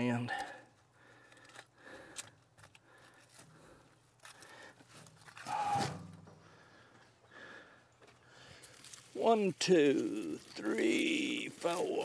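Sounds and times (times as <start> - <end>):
plant stalks rustling and crackling: 0.0 - 6.2, 8.0 - 12.0.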